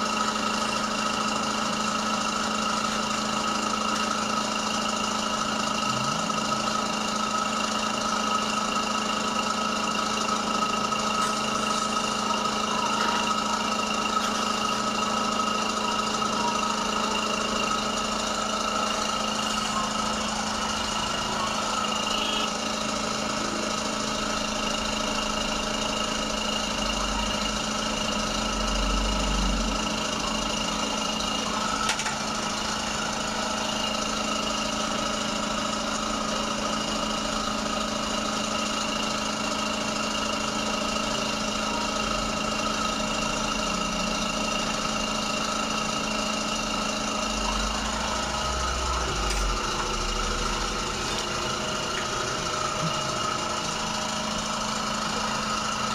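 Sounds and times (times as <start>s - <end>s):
suction unit motor humming: 0.0s - 55.9s.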